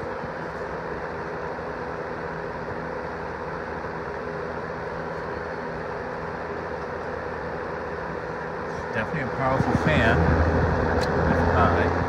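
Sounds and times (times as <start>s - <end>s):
fan air rush: 0.0s - 12.0s
fan motor hum: 0.0s - 12.0s.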